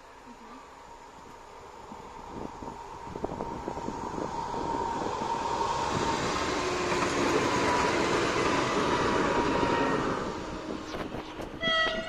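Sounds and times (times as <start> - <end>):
passenger train wheel and rail noise: 0.0 - 12.0.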